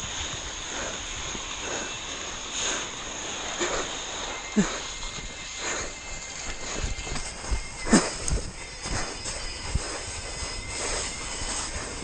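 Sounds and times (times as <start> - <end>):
rush of wind and snow: 0.0 - 12.0
tyres scraping through snow: 0.0 - 12.0.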